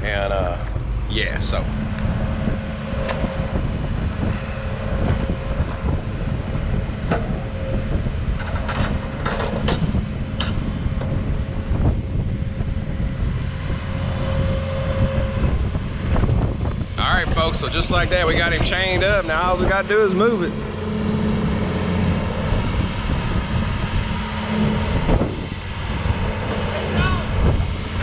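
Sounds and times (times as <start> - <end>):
heavy machine engine idling: 0.0 - 28.0
wind buffeting microphone: 0.0 - 28.0.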